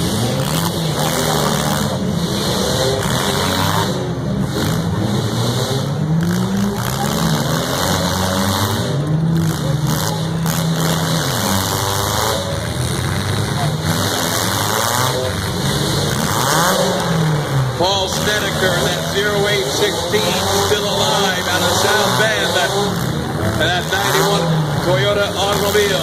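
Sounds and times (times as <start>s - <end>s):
car engines revving: 0.0s - 26.0s
noisy din: 0.0s - 26.0s.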